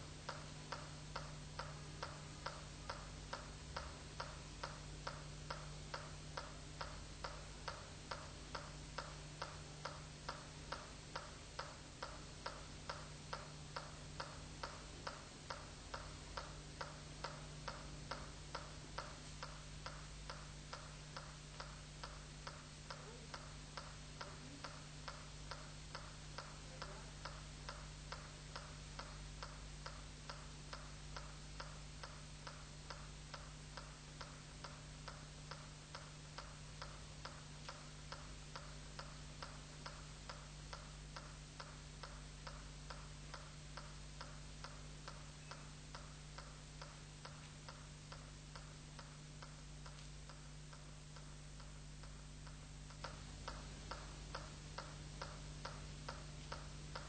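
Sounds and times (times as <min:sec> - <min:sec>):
low steady hum: 0:00.0 - 0:57.0
metronome ticking: 0:00.0 - 0:57.0.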